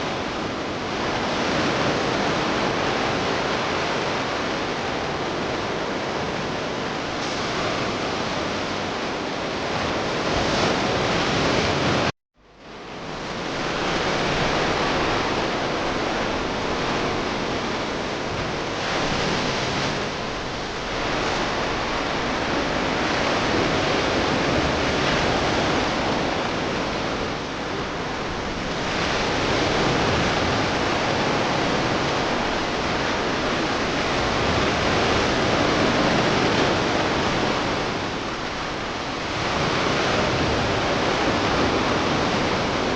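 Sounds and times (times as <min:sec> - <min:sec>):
sea surf washing onto shore: 0:00.0 - 0:12.1, 0:12.7 - 0:42.9.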